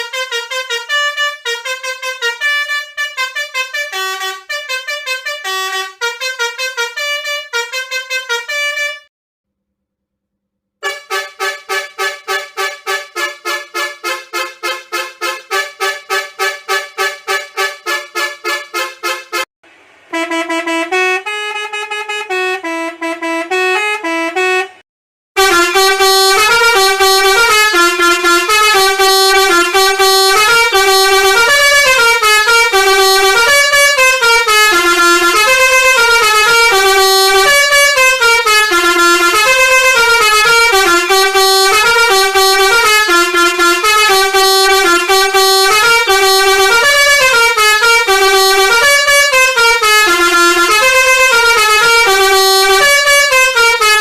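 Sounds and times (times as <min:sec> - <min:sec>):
bus horn playing melody: 0:00.0 - 0:09.1, 0:10.8 - 0:24.8, 0:25.4 - 0:54.0.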